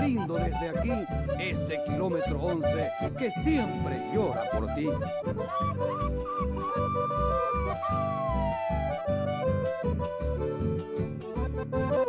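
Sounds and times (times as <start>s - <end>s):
accordion melody: 0.0s - 12.0s
upright bass beat: 0.0s - 12.0s.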